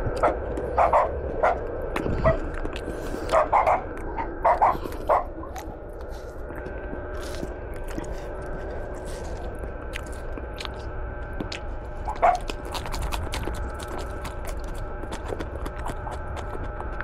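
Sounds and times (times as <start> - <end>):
person chewing leaves: 0.0 - 17.0.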